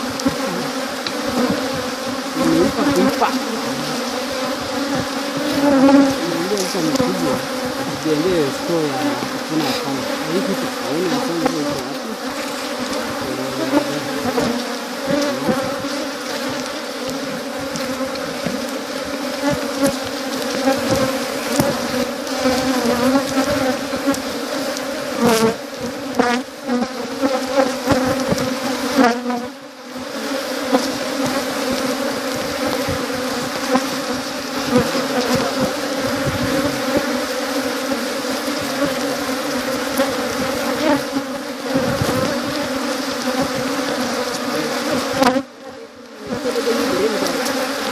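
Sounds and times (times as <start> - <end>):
single bee passing close: 0.0 - 47.9
swarm of bees humming: 0.0 - 47.9.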